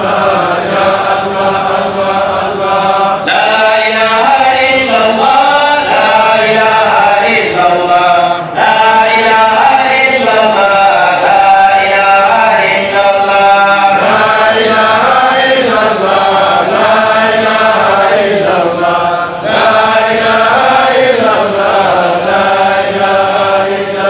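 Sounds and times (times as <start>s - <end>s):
man chanting through a microphone: 0.0s - 24.0s.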